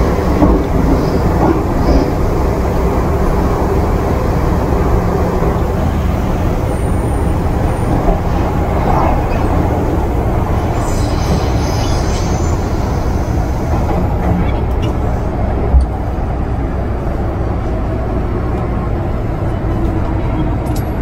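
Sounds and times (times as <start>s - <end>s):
metro train rumbling: 0.0s - 21.0s.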